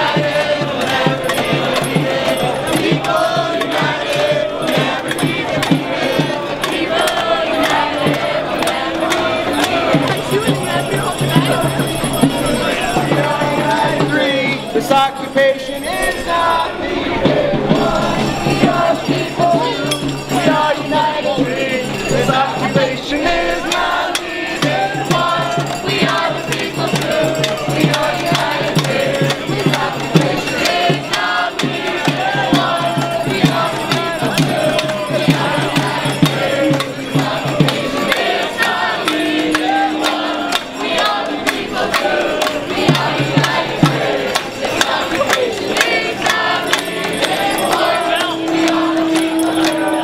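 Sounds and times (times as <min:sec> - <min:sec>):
crowd chanting and singing: 0:00.0 - 0:50.0
shaker and tambourine rattling: 0:00.0 - 0:50.0.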